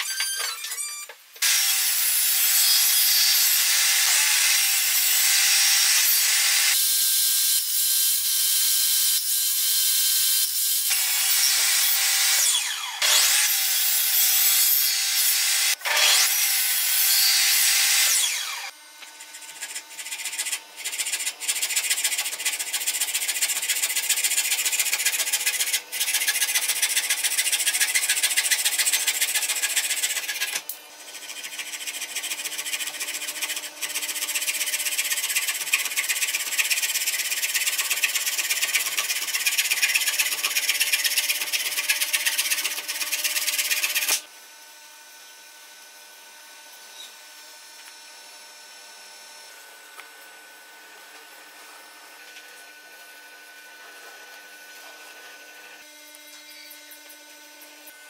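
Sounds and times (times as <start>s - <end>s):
hand saw cutting wood: 1.4s - 6.9s, 9.1s - 44.3s, 50.8s - 58.0s
table saw whining: 9.1s - 58.0s.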